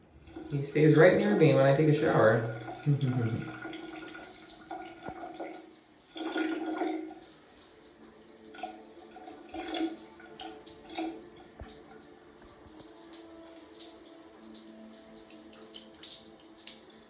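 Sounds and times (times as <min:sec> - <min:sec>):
shower spray of water: 0:00.2 - 0:17.0.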